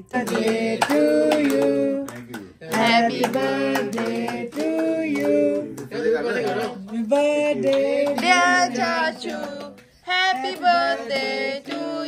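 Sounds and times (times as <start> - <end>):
song with singing and percussive beats: 0.0 - 12.0.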